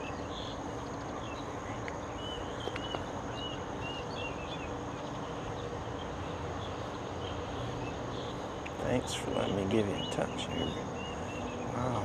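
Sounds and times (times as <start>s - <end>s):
background hum: 0.0s - 12.0s
bird chirping: 0.0s - 12.0s.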